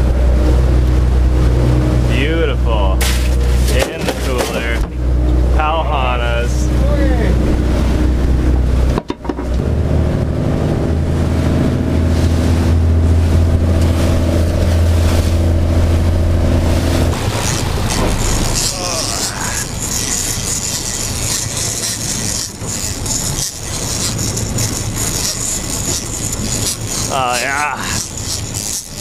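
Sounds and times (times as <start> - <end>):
outboard motor droning: 0.0 - 29.0
wake water rushing: 0.0 - 29.0.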